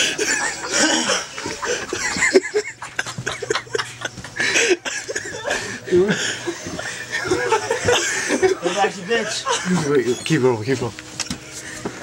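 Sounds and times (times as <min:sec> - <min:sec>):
people stifling laughter: 0:00.0 - 0:10.6.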